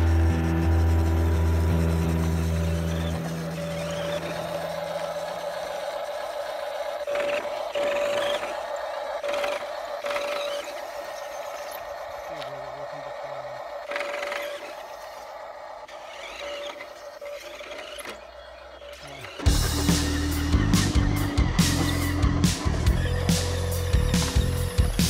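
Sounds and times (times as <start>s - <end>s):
small electric motor whining: 0.0s - 25.0s.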